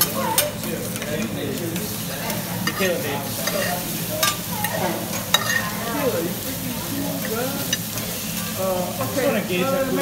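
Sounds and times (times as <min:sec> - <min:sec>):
food sizzling on a griddle: 0:00.0 - 0:10.0.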